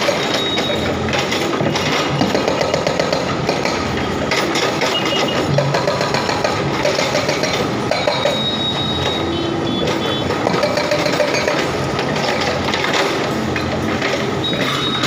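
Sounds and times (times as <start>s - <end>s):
hydraulic breaker hammering concrete: 0.0s - 15.0s.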